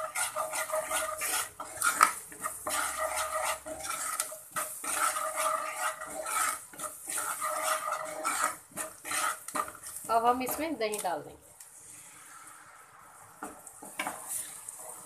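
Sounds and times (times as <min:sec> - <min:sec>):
wooden spatula scraping pan: 0:00.0 - 0:11.2, 0:13.4 - 0:15.0.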